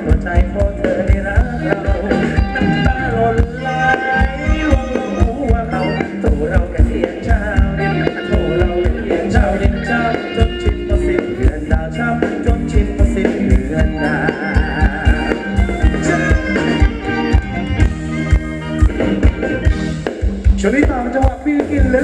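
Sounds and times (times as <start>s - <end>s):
live band music: 0.0s - 22.0s
steady drum beat: 0.0s - 22.0s.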